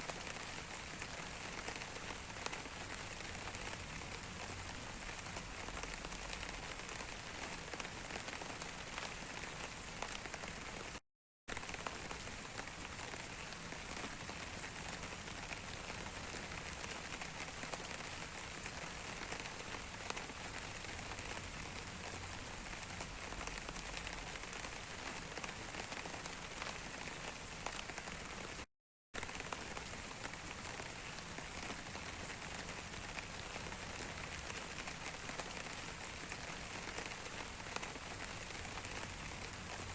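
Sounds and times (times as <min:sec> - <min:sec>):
raindrops ticking on surface: 0:00.1 - 0:39.9.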